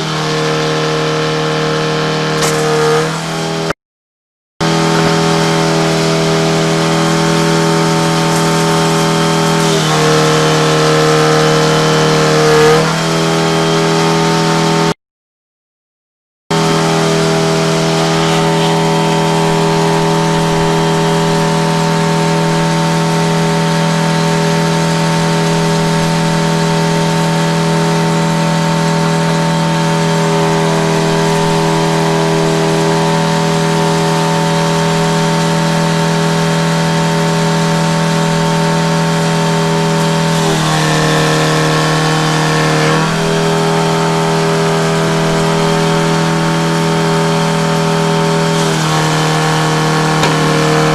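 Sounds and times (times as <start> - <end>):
machine engine running: 0.0 - 3.8, 4.6 - 14.9, 16.5 - 50.9.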